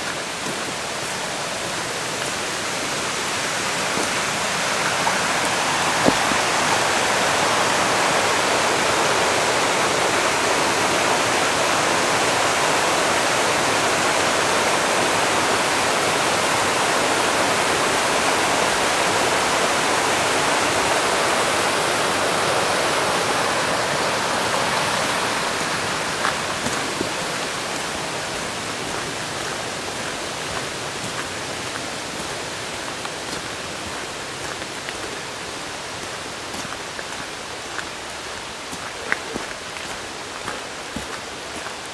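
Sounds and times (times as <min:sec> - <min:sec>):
stream rushing over stones: 0:00.0 - 0:41.9.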